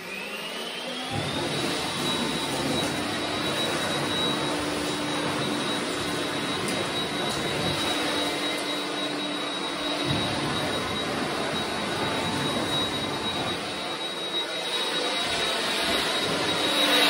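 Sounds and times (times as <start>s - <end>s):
leaf blower running: 0.0s - 17.0s.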